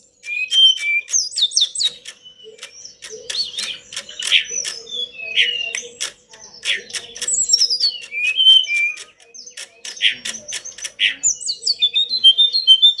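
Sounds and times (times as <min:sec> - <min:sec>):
harsh bird notes: 0:00.0 - 0:13.0
songbird singing: 0:00.0 - 0:13.0.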